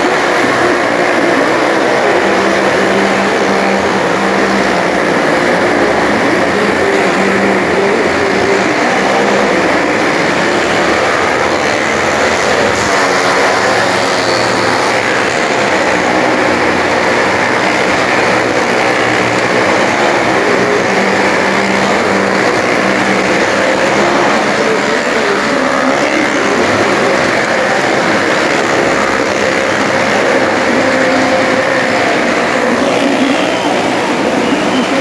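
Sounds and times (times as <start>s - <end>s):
car and motorcycle engines running: 0.0s - 35.0s.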